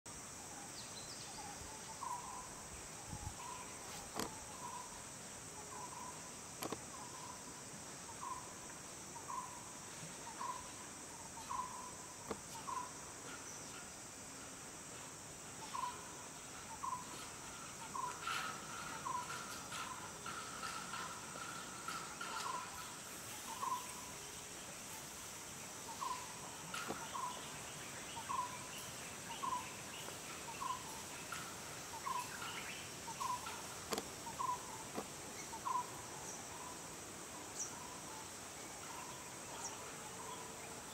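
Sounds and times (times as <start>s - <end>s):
high-pitched insect drone: 1.7s - 37.0s.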